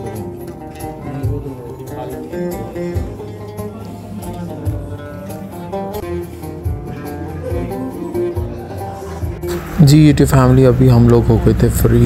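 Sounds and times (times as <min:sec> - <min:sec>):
plucked instrumental music: 0:00.0 - 0:12.0.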